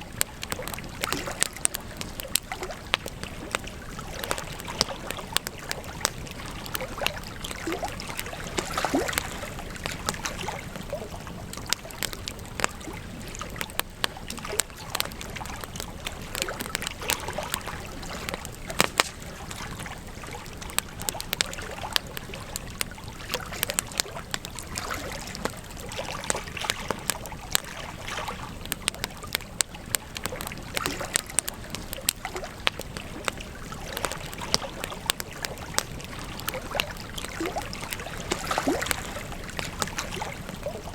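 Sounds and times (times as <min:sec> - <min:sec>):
fire crackling and popping: 0:00.0 - 0:40.9
rush of flames: 0:00.0 - 0:40.9.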